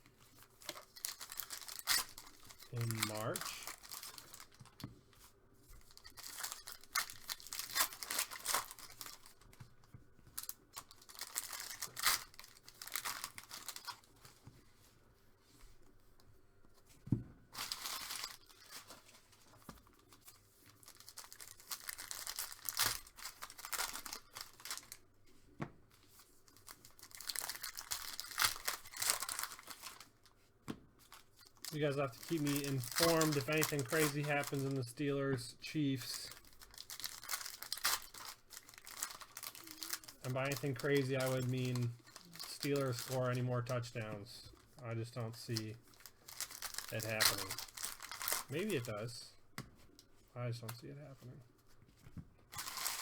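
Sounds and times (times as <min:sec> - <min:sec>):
wrappers tearing and crinkling: 0:00.1 - 0:05.2, 0:05.8 - 0:09.7, 0:10.3 - 0:14.4, 0:17.6 - 0:25.1, 0:25.9 - 0:30.4, 0:31.0 - 0:49.1, 0:52.5 - 0:53.0.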